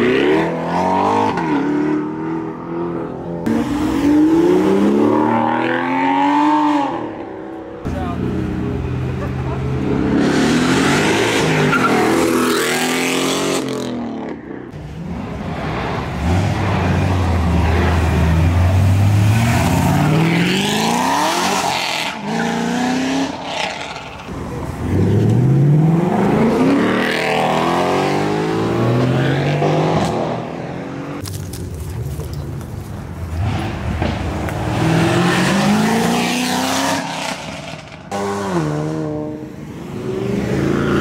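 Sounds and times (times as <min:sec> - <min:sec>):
car engines accelerating hard: 0:00.0 - 0:31.2, 0:32.3 - 0:41.0.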